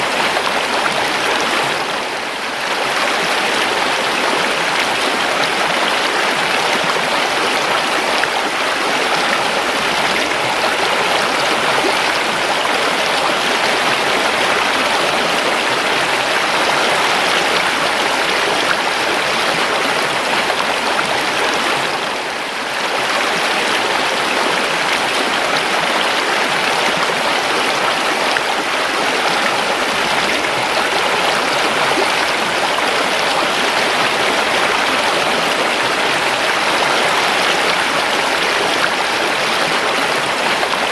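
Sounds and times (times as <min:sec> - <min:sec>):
river rushing and gurgling: 0:00.0 - 0:40.9.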